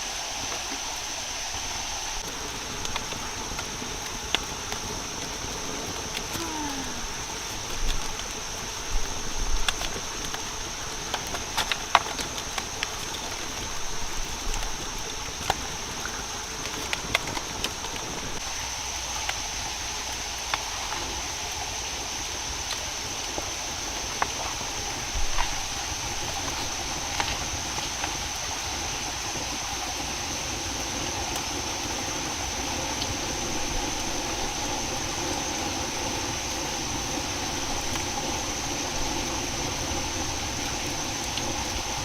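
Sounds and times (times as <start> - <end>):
continuous hiss: 0.0 - 42.0.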